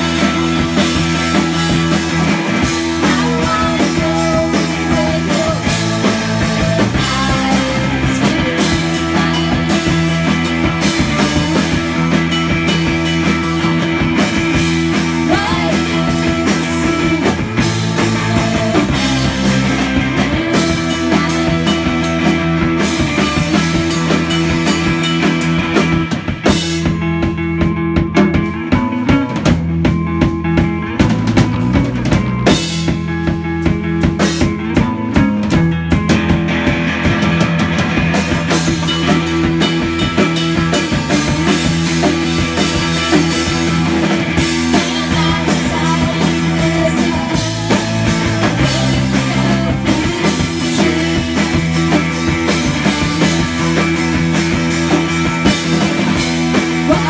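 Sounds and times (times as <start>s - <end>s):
drum kit: 0.0s - 57.0s
electric bass: 0.0s - 57.0s
electric guitar: 0.0s - 57.0s.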